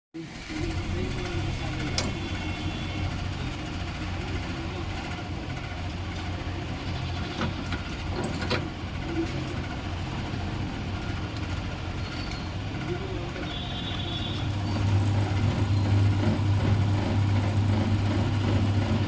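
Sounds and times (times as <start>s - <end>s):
ceiling fan humming: 0.2s - 19.0s.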